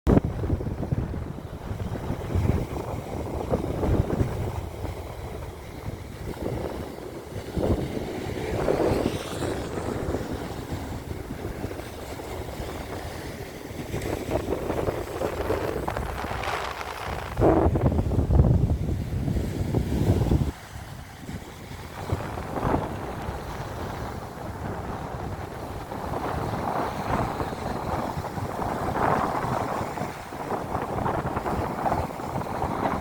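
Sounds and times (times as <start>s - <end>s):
sea waves breaking: 0.1s - 33.0s
wind rumbling on microphone: 0.1s - 33.0s.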